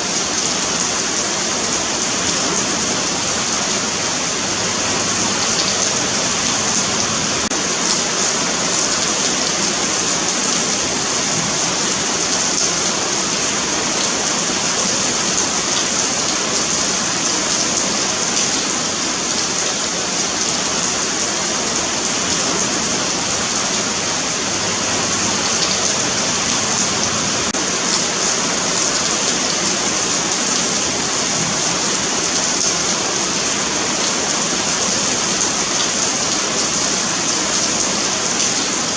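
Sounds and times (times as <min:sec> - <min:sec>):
rain hissing: 0:00.0 - 0:38.9
raindrops pattering on pavement: 0:00.0 - 0:38.9.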